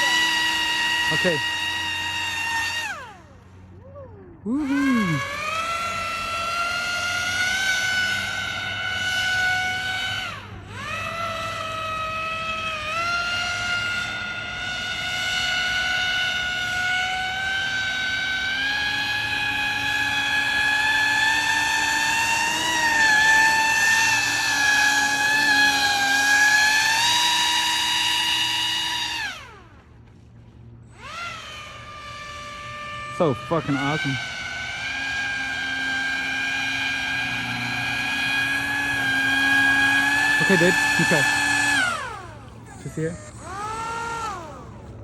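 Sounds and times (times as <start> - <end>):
electric motor and propeller whine: 0.0 - 45.0.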